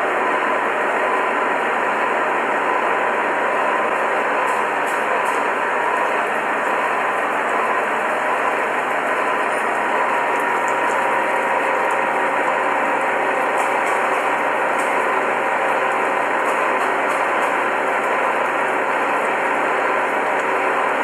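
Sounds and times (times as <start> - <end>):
gear cutting machine running: 0.0 - 21.0.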